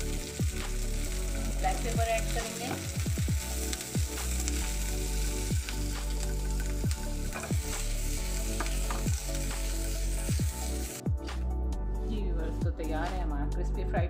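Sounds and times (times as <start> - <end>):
vegetables sizzling in a wok: 0.0 - 11.4.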